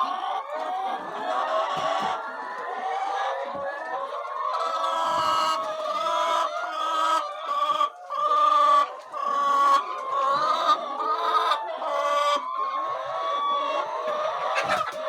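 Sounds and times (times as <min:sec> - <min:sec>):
chickens clucking: 0:00.0 - 0:15.0
drawn-out chicken calls: 0:00.0 - 0:15.0.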